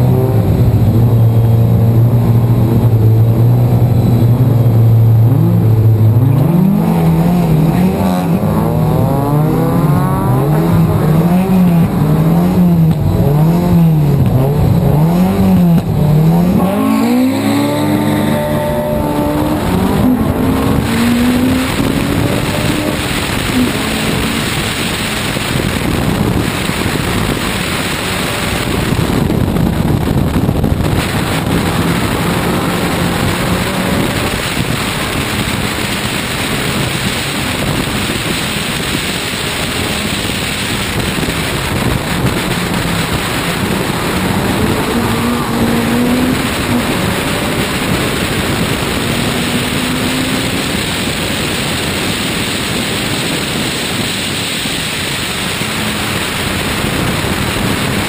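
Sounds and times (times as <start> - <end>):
race car engine: 0.0 - 58.0
wind noise on microphone: 0.0 - 58.0.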